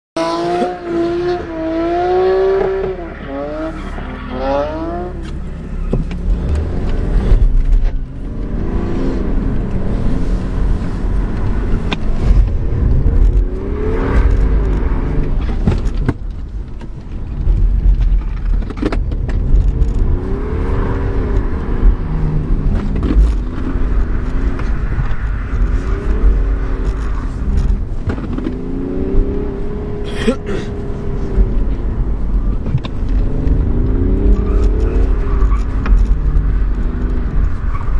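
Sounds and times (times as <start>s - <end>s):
car engine revving: 0.2s - 16.7s, 17.4s - 37.9s
road rumble: 0.2s - 37.9s.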